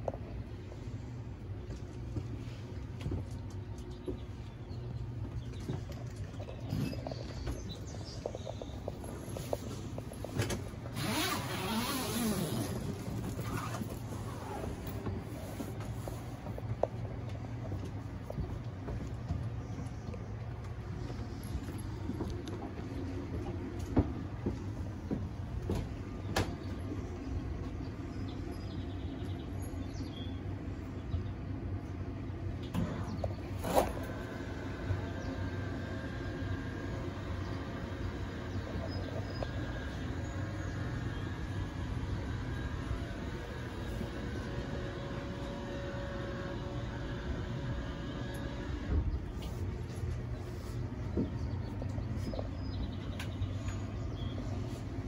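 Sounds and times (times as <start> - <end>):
steady low rumble: 0.0 - 11.5, 12.1 - 55.0
low machinery hum: 0.0 - 55.0.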